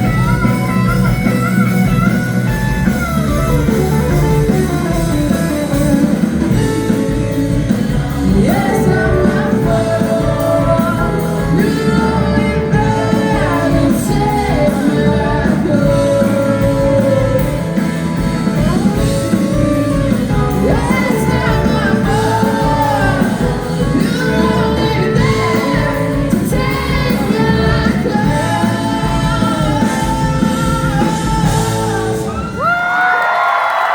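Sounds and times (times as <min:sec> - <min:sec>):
bass guitar: 0:00.0 - 0:33.9
electric guitar: 0:00.0 - 0:33.9
person singing: 0:05.7 - 0:33.0.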